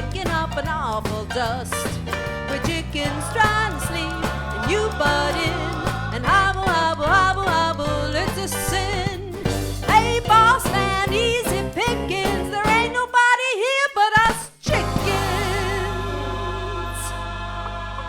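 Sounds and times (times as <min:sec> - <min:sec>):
swing band playing: 0:00.0 - 0:13.3, 0:14.2 - 0:18.0
lead singer and backing vocals: 0:00.0 - 0:18.0.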